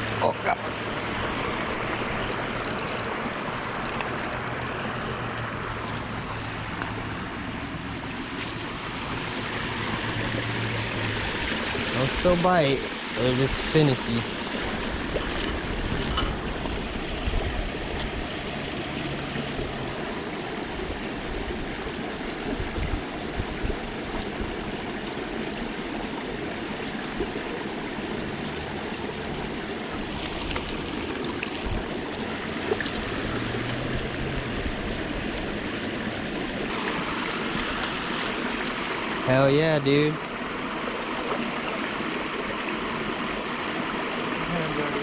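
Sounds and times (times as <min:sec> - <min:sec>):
creek water running: 0:00.0 - 0:45.0.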